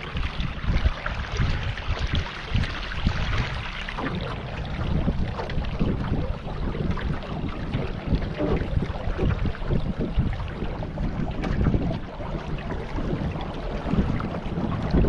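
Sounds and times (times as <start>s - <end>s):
water splashing: 0.0s - 15.0s
wind buffeting microphone: 0.0s - 15.0s.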